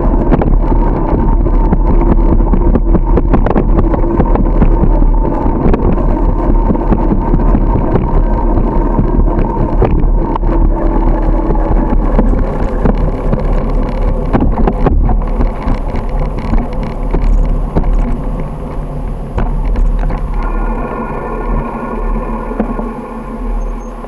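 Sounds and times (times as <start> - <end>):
bicycle road rattle: 0.0 - 24.0
wind on microphone: 0.0 - 24.0.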